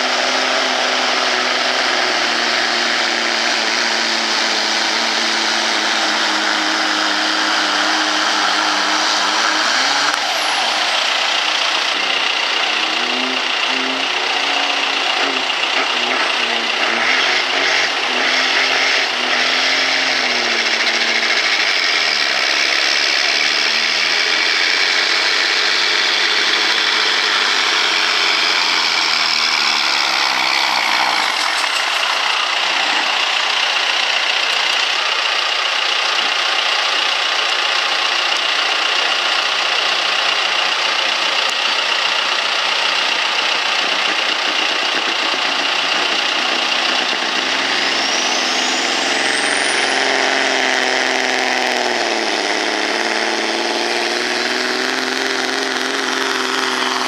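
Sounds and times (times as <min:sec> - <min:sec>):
diesel truck engine under load: 0:00.0 - 0:57.0.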